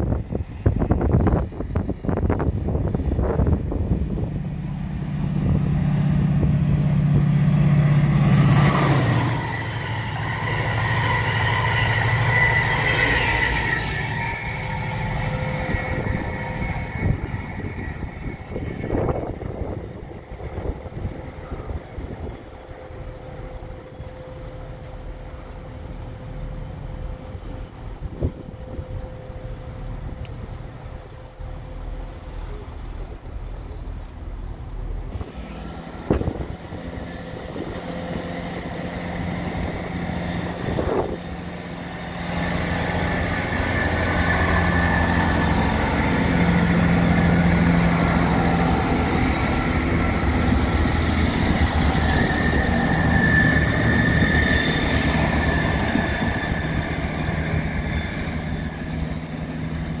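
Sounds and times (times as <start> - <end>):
diesel train passing: 0.0 - 60.0
train wheels on rails: 0.0 - 60.0.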